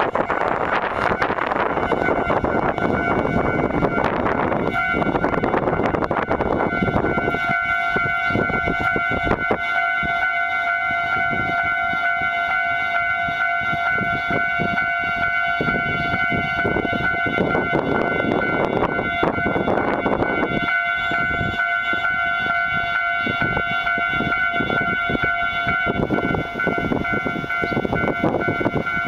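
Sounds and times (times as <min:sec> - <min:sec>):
steady high-pitched tone: 0:00.0 - 0:29.0
wind buffeting microphone: 0:00.0 - 0:29.0.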